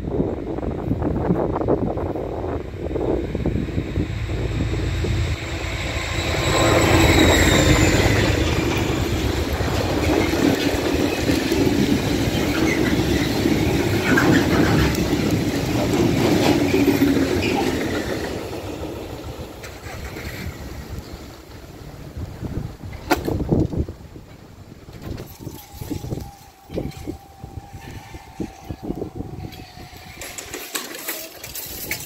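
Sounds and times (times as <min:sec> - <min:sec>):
diesel locomotive engine: 0:00.0 - 0:32.0
train wheels rumbling over rails: 0:00.0 - 0:32.0.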